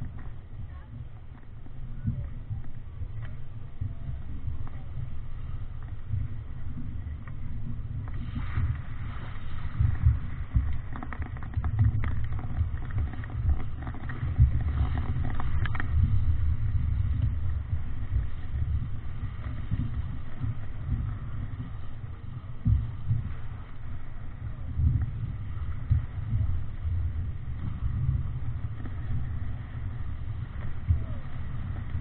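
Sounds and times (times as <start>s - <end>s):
waves washing past hull: 0.0s - 32.0s
wind buffeting microphone: 0.0s - 32.0s.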